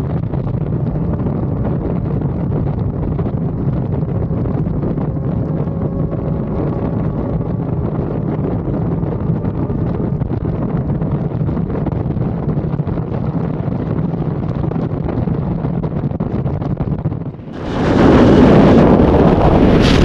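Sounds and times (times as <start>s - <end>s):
motorcycle engine drone: 0.0s - 20.0s
wind buffeting microphone: 0.0s - 20.0s.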